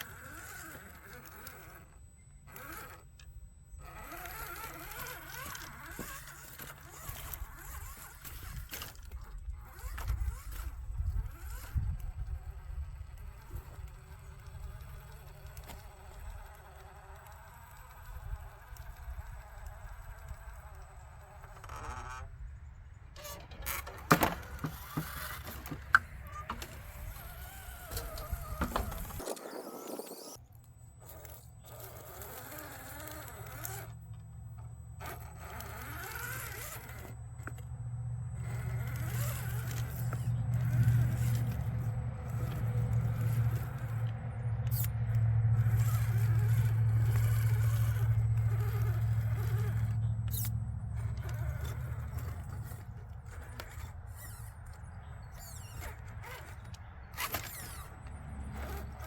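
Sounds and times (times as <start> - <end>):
electric motor and gears buzzing: 0.0 - 59.0.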